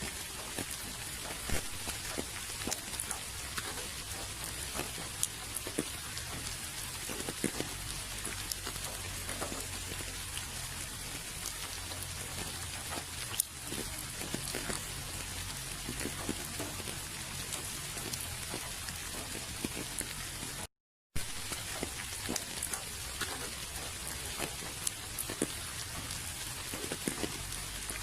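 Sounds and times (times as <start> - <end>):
raindrops tapping on surfaces: 0.0 - 28.0
steady rain: 0.0 - 28.0.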